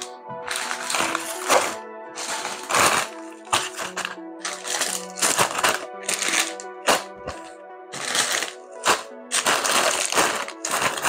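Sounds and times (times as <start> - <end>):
background music: 0.0 - 11.0
plastic bags crinkling: 0.0 - 11.0
small bricks rattling: 0.0 - 11.0.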